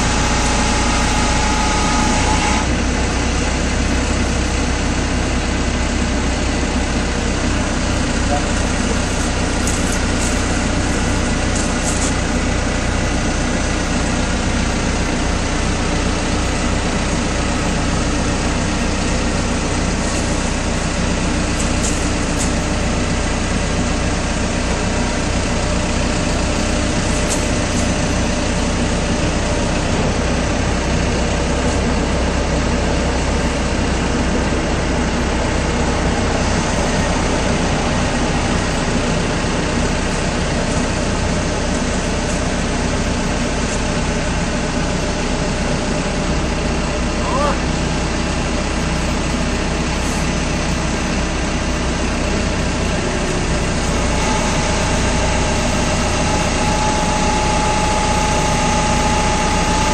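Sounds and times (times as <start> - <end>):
deep hum: 0.0 - 59.9
machinery droning: 0.0 - 59.9.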